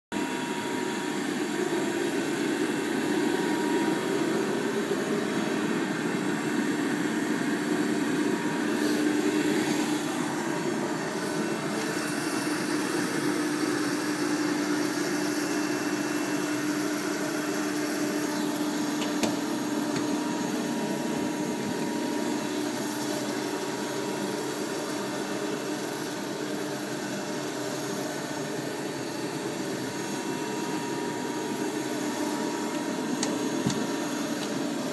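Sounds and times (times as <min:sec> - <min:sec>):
hydraulic pump motor humming: 0:01.4 - 0:25.8, 0:29.3 - 0:34.9.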